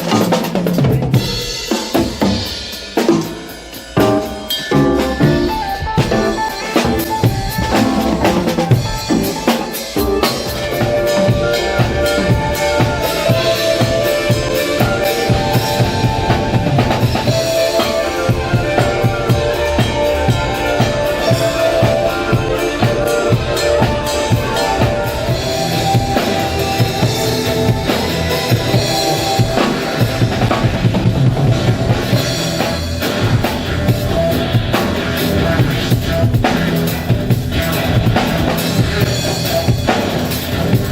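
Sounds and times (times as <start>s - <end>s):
drum kit playing a beat: 0.0s - 40.9s
held notes of accompanying music: 3.0s - 36.9s.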